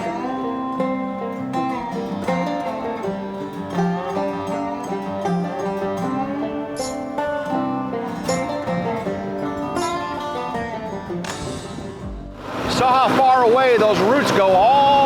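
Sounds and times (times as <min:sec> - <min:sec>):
acoustic guitar: 0:00.0 - 0:15.0
plucked banjo: 0:00.0 - 0:15.0.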